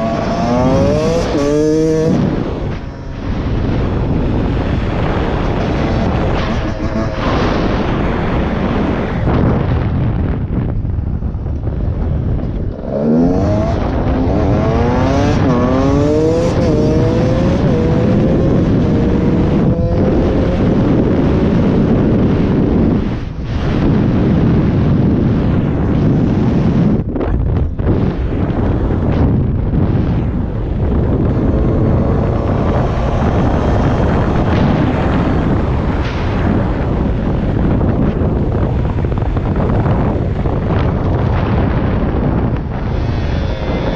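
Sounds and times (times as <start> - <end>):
dirt bike engine accelerating: 0.0 - 9.8, 11.9 - 27.0, 29.8 - 43.9
wind on microphone: 0.0 - 43.9.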